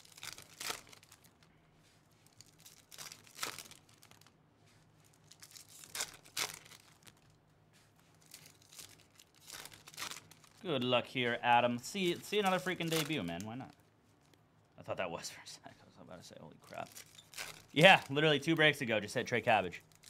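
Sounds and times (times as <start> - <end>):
foil wrappers crinkling and tearing: 0.0 - 7.4, 8.0 - 14.4, 16.6 - 20.0.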